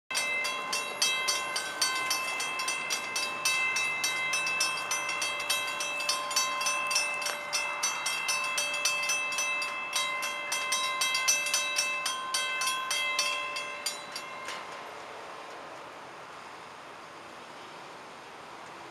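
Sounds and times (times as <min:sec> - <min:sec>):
crossing warning bells clanging: 0:00.1 - 0:17.3.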